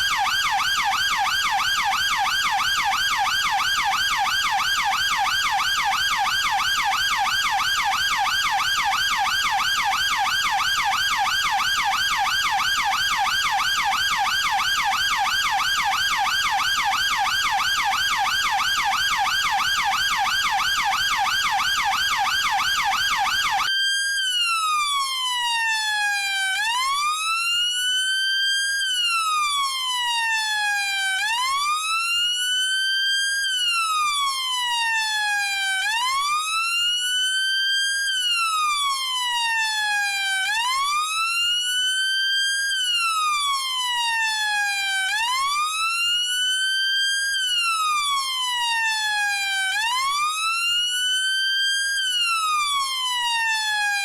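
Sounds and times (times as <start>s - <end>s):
police siren yelp: 0.0s - 54.0s
siren slow wail: 0.0s - 54.0s.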